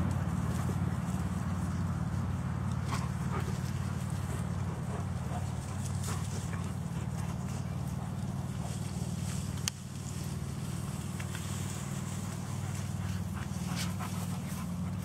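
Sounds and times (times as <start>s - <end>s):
rustling through tall grass: 0.0s - 15.0s
steady low hum: 0.0s - 15.0s.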